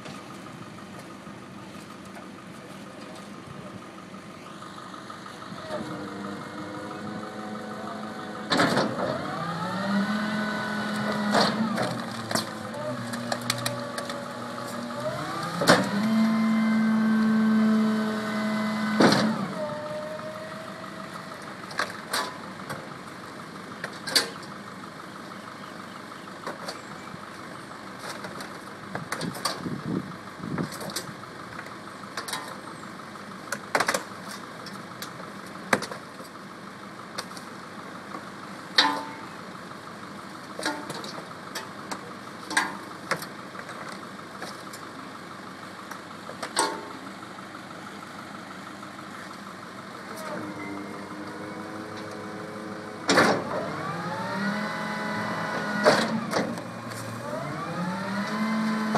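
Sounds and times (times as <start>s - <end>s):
garbage truck engine whining: 3.4s - 58.9s.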